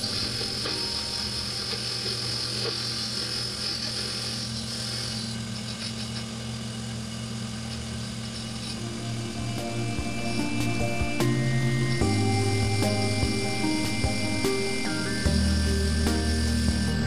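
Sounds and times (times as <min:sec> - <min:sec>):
lathe motor hum with high whine: 0:00.0 - 0:17.0.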